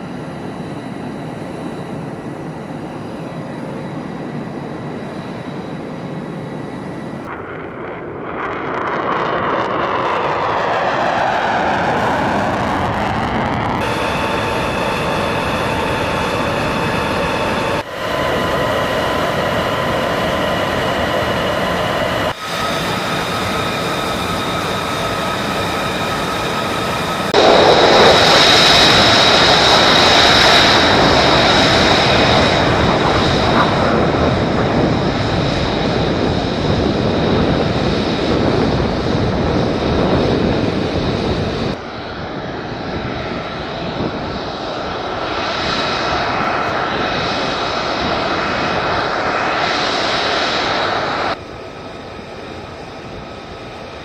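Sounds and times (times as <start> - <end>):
jet engines whining and roaring: 0.0 - 54.0.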